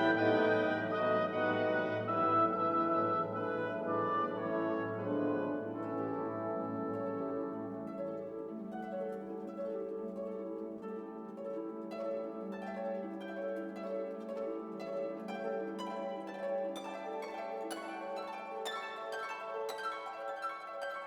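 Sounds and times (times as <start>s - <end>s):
harp-like plucked string music: 0.0s - 21.0s.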